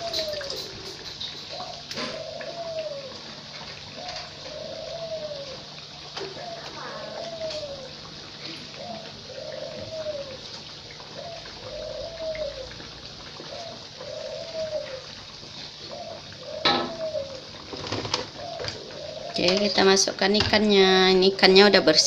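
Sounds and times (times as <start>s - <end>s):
bird cooing: 0.0s - 20.0s
deep-frying sizzle: 0.0s - 22.0s.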